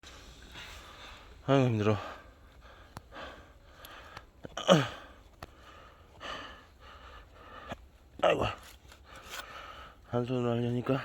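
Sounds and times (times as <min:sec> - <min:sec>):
man breathing hard: 0:00.1 - 0:10.1.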